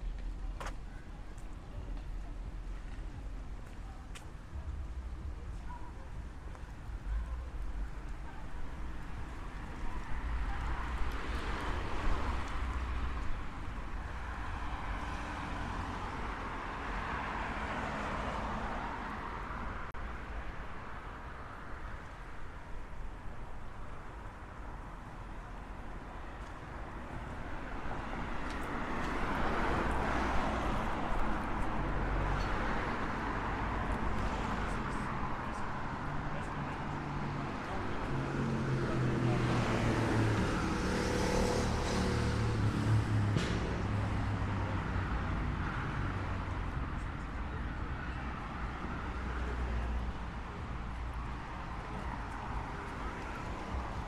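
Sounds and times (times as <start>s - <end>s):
city street ambience: 0.0s - 54.0s
low rumble of traffic: 0.0s - 54.0s.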